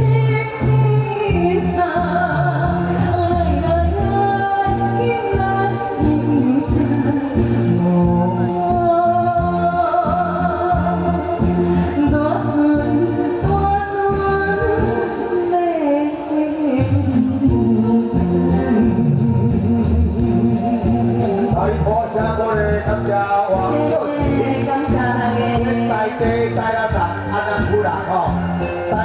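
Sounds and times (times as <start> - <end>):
amplified instrumental accompaniment: 0.0 - 29.0
person singing pop song: 0.0 - 29.0.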